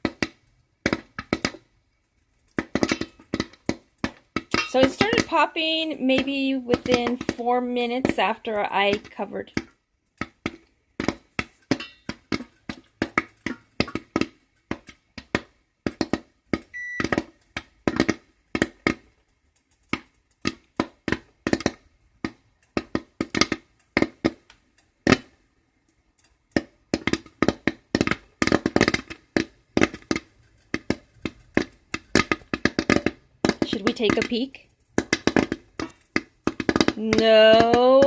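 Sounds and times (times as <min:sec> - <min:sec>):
popcorn popping in a pot: 0:00.0 - 0:38.0.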